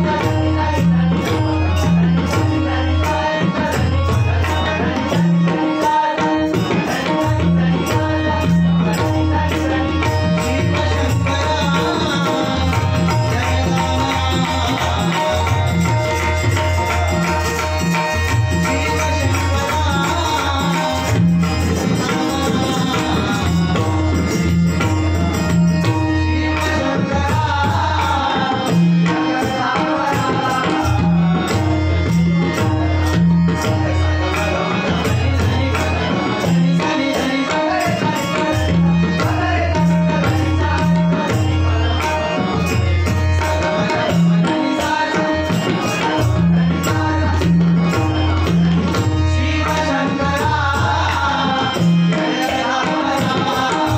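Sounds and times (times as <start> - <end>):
hand drums playing rhythm: 0.0 - 53.9
harmonium tones: 0.0 - 53.9
man singing: 0.0 - 53.9.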